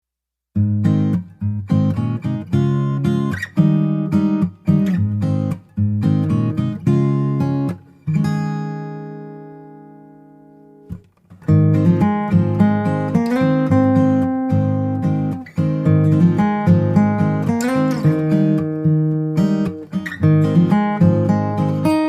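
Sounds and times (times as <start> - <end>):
acoustic guitar chords: 0.5 - 22.0.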